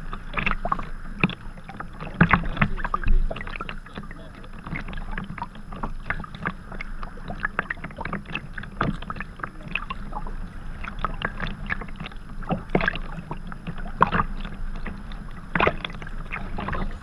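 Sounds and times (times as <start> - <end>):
low rumble: 0.0 - 17.0
paddle blades splashing: 0.0 - 17.0
water lapping against hull: 0.0 - 17.0.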